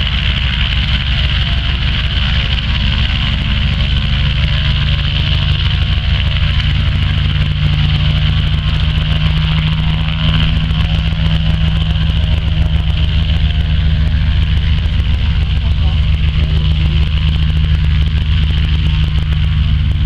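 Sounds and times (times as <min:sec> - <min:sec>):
radial piston engine running: 0:00.0 - 0:20.0.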